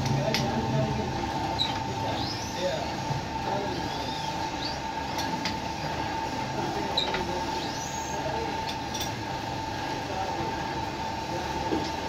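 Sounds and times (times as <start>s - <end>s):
lathe machine humming: 0.0s - 12.0s.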